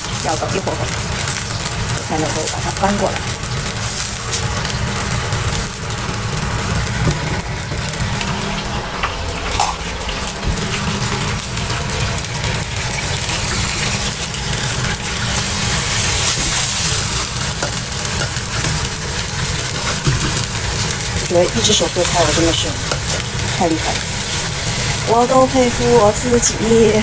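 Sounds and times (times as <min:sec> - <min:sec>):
fish sizzling in hot oil: 0:00.0 - 0:27.0
low rumble: 0:00.0 - 0:27.0.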